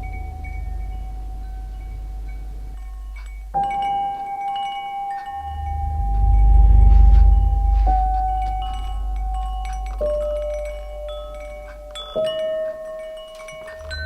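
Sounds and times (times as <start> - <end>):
deep low drone: 0.0 - 4.4, 5.2 - 12.2
bell-like chime notes: 0.0 - 14.0.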